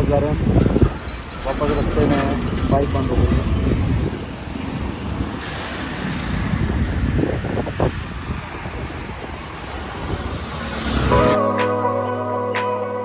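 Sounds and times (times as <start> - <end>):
wind buffeting microphone: 0.0 - 11.2
highway traffic rushing: 0.0 - 13.0.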